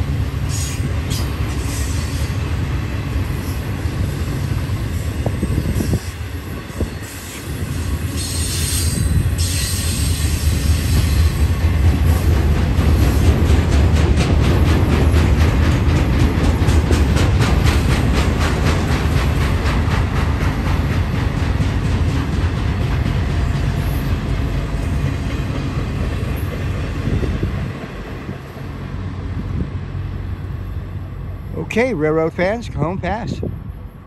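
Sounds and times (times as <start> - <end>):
clickety-clack of train wheels: 0.0 - 30.4
freight train rumble: 0.0 - 34.0.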